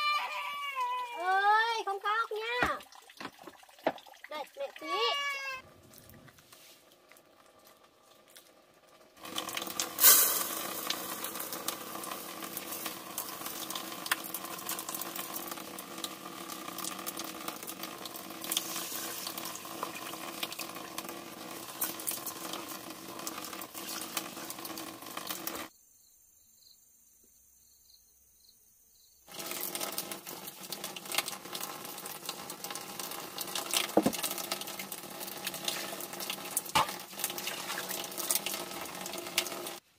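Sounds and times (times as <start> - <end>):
water pouring into pot: 1.3 - 25.7, 29.3 - 39.8.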